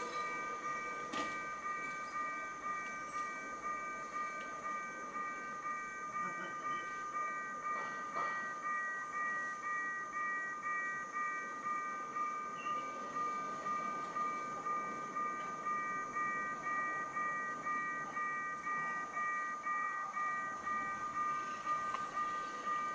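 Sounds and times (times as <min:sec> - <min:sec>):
level crossing bell ringing: 0:00.0 - 0:22.9.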